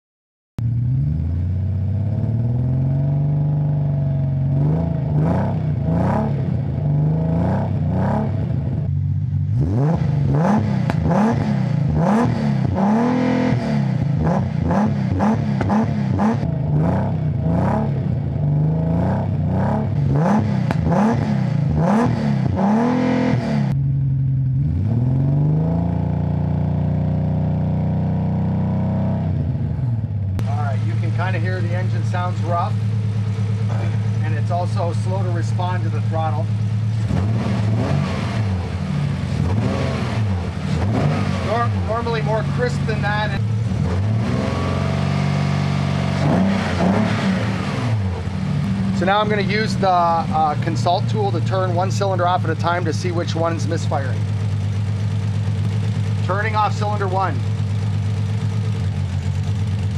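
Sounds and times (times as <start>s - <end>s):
car engine idling and revving: 0.6s - 59.9s.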